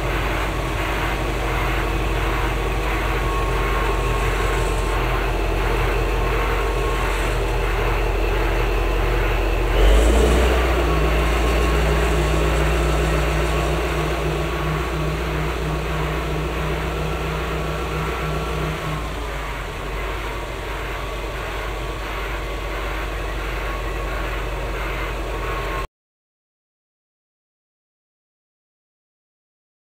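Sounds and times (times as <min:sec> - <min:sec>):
diesel truck engine under load: 0:00.0 - 0:25.9.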